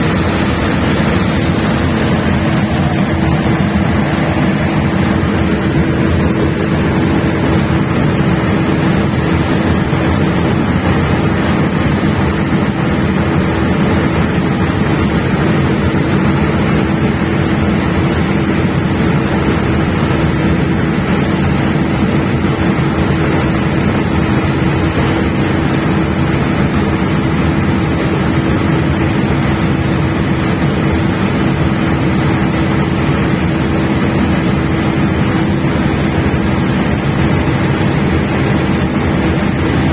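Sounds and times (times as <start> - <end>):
thin high whine: 0.0 - 12.8, 13.6 - 39.9
diesel generator running: 0.0 - 39.9.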